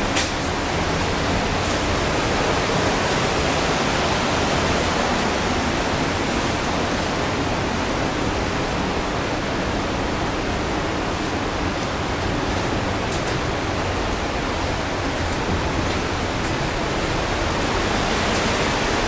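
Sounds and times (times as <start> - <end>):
rushing water in a rock tunnel: 0.0 - 19.0.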